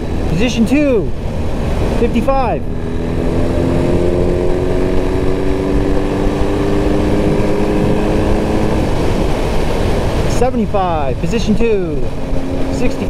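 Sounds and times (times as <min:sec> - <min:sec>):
motorcycle engine hum: 0:00.0 - 0:13.0
wind rushing over microphone: 0:00.0 - 0:13.0.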